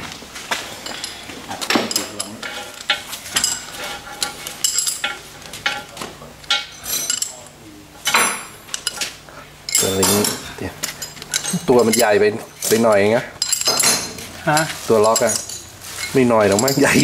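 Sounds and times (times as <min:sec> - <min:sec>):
metallic clinks and scrapes: 0:00.6 - 0:17.0.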